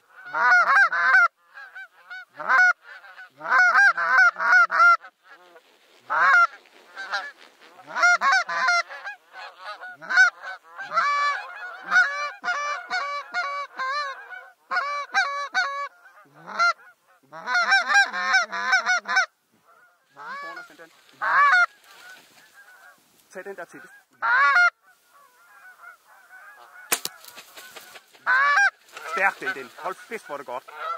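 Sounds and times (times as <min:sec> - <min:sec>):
geese honking: 0:00.0 - 0:30.9.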